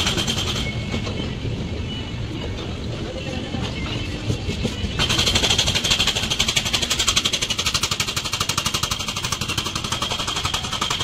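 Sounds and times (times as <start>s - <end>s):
train passing with low rumble: 0.0s - 11.0s.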